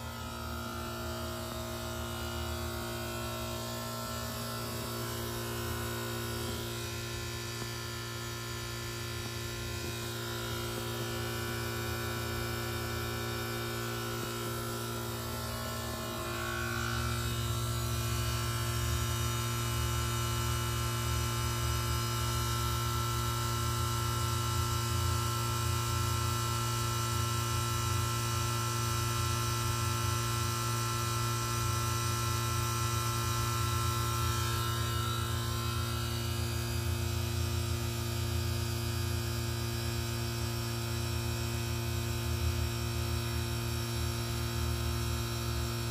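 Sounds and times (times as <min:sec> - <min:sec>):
heat pump compressor humming: 0:00.0 - 0:45.9
outdoor fan running: 0:00.0 - 0:45.9.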